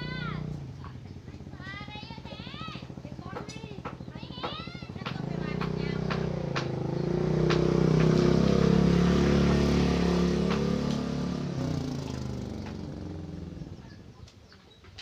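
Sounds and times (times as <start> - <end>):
vehicle engine running: 0.0 - 14.3.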